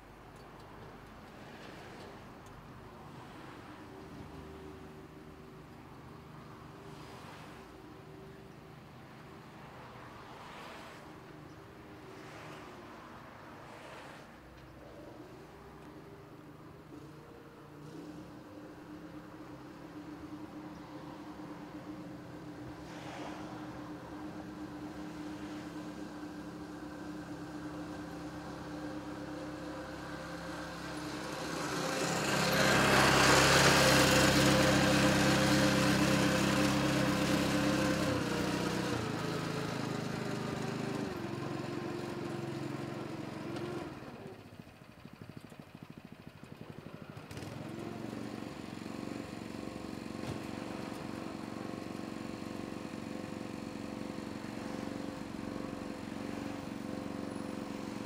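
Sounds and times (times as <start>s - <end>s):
truck engine and machinery running: 0.0s - 58.0s.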